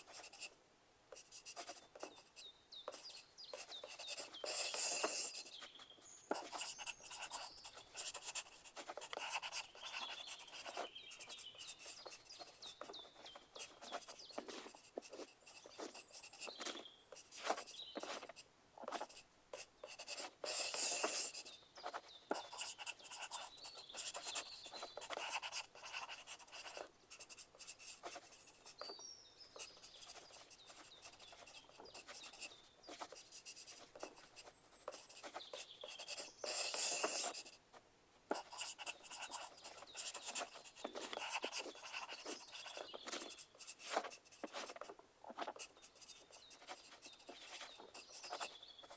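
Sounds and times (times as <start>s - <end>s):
pencil scratching on paper: 0.0s - 0.5s, 1.2s - 29.0s, 29.6s - 37.6s, 38.3s - 48.9s.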